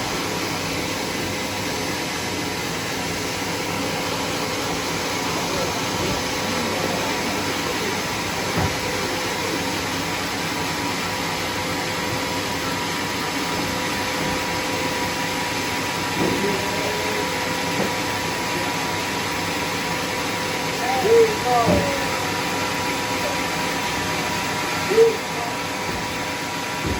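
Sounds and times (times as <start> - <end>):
sawmill machinery running: 0.0 - 26.9.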